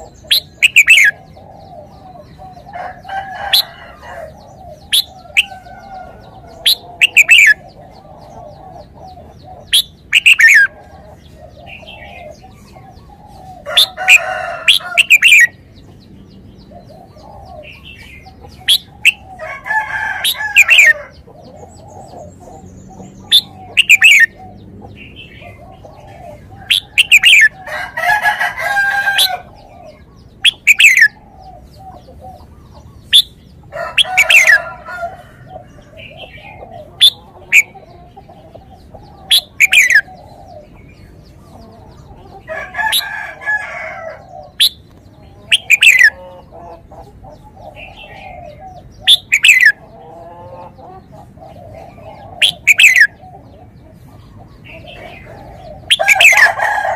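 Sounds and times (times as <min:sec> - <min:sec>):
faint chattering bird calls: 0:00.0 - 0:56.9.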